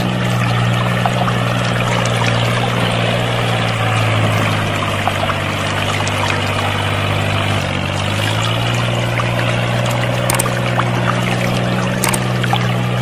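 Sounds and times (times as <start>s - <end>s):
pump humming: 0.0s - 13.0s
water streams splashing: 0.0s - 13.0s.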